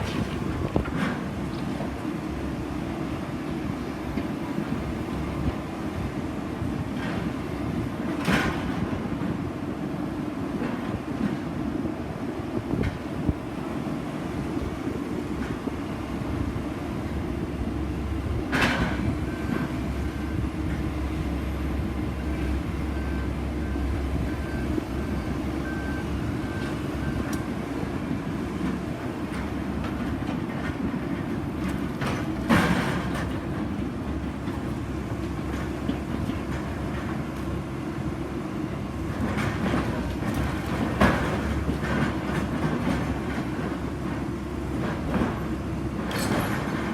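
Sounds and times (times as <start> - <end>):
heavy machinery rumble: 0.0 - 46.9.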